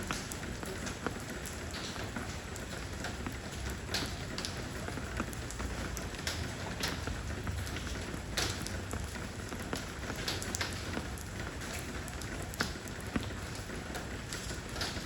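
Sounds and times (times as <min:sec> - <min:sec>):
rain hissing on stone: 0:00.0 - 0:15.0
raindrops ticking: 0:00.0 - 0:15.0.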